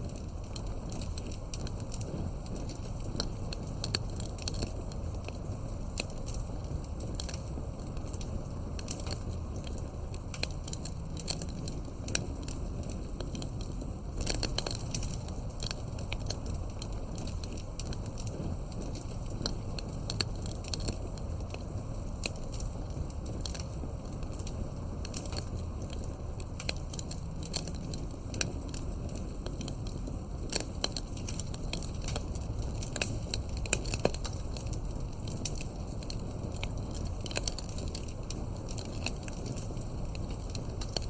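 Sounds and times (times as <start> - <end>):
campfire popping and snapping: 0.0 - 41.0
low rumble of burning: 0.0 - 41.0.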